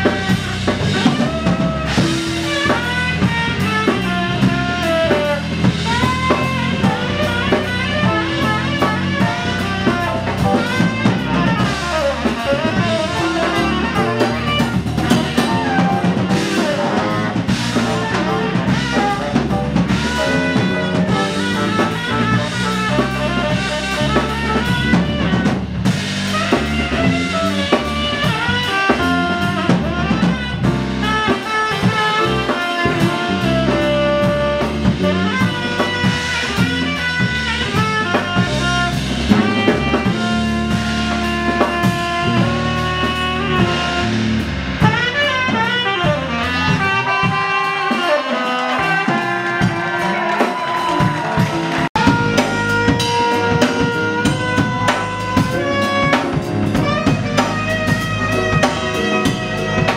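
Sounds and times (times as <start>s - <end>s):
drum kit rimshots: 0.0s - 59.9s
jazz band playing: 0.0s - 59.9s
saxophone lead: 0.0s - 59.9s.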